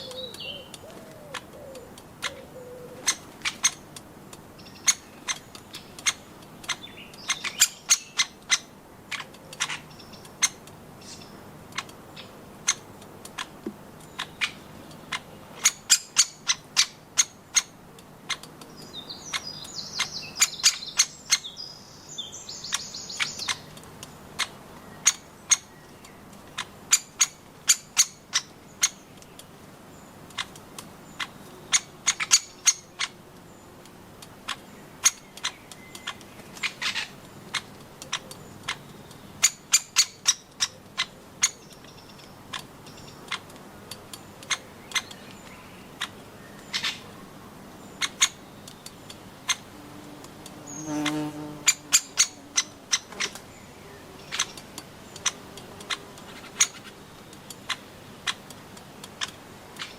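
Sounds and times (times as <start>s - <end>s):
woodpeckers tapping: 0.0s - 21.4s, 22.6s - 47.1s, 47.7s - 59.9s.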